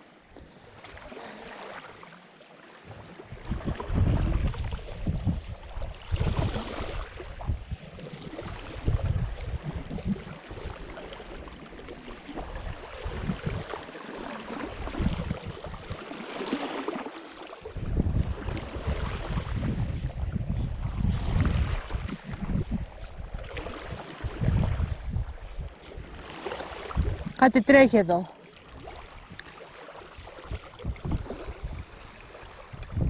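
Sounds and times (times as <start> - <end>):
water sloshing around kayak hull: 0.4 - 27.4, 28.4 - 32.9.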